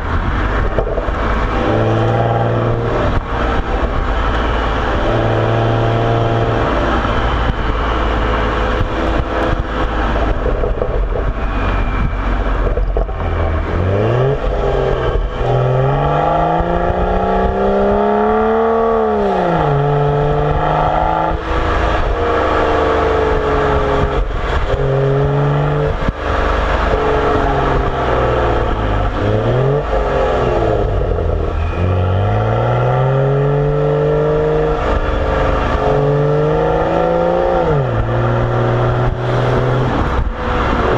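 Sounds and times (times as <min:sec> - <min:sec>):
car engine revving through exhaust: 0:00.0 - 0:40.9.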